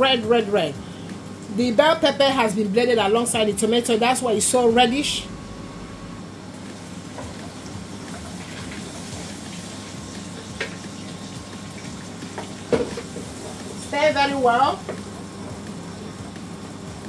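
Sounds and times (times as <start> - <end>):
pur e sizzling in a pot: 0.0 - 17.0.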